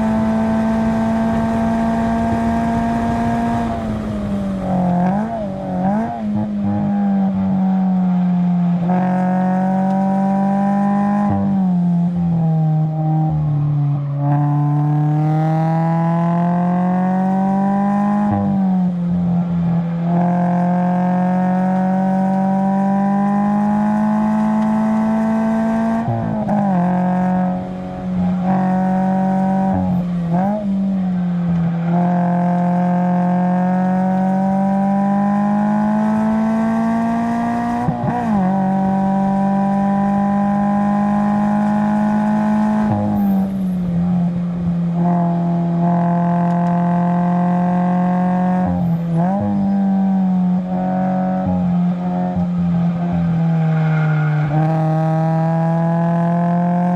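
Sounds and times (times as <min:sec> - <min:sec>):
car engine revving under hard driving: 0:00.0 - 0:56.9.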